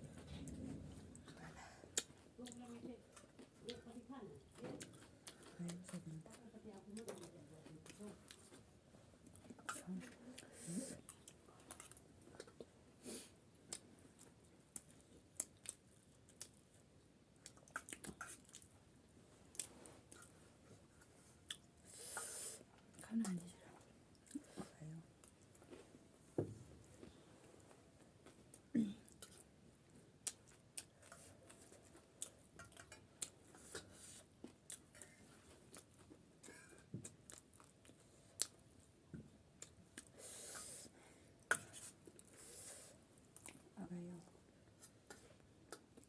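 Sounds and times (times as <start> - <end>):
chewing and crunching food: 0.0 - 26.0, 26.8 - 46.0.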